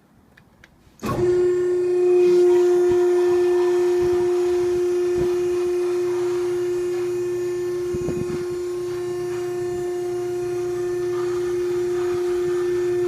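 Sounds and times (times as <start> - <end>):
baler motor and pump whine: 1.0 - 13.0.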